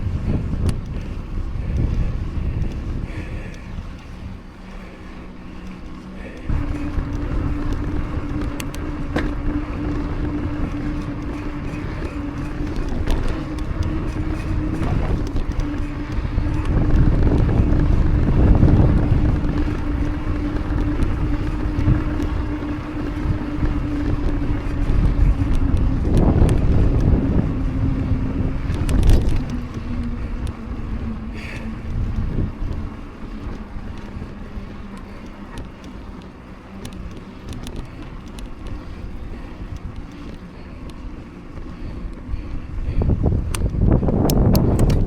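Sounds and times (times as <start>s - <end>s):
bicycle clicks: 0.0s - 45.0s
bicycle tyre hum: 0.0s - 45.0s
wind buffeting microphone: 0.0s - 45.0s.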